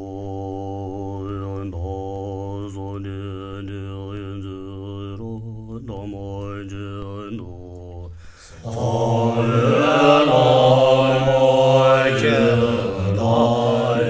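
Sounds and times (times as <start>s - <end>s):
monks chanting in low voices: 0.0s - 14.0s.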